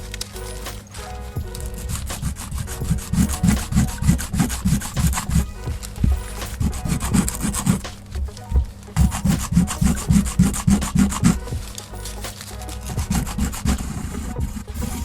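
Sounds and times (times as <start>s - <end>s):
abrasive rubbing on metal: 0.0s - 15.0s
faint background music: 0.0s - 15.0s.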